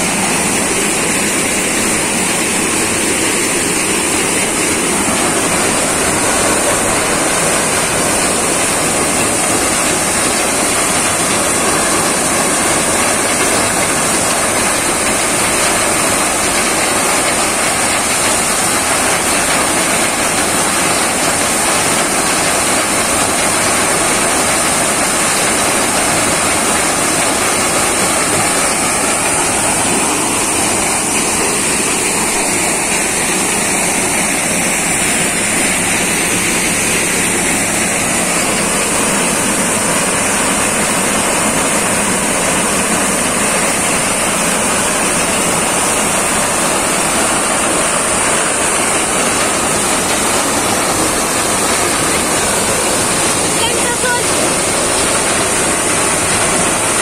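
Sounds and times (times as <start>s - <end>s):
tractor engine: 0.0s - 57.0s.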